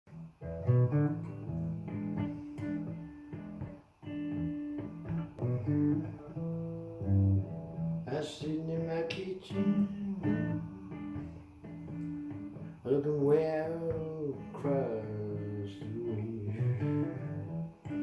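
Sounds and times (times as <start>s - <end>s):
acoustic guitar blues: 0.1s - 18.0s.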